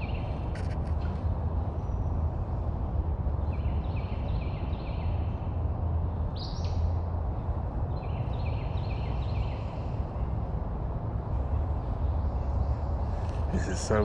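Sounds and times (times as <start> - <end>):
distant highway traffic rumble: 0.0 - 14.0.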